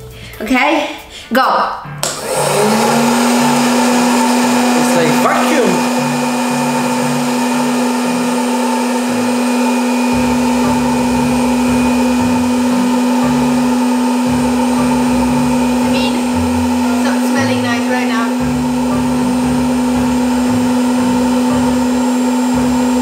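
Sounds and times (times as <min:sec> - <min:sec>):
popcorn maker fan humming: 0:02.0 - 0:23.0.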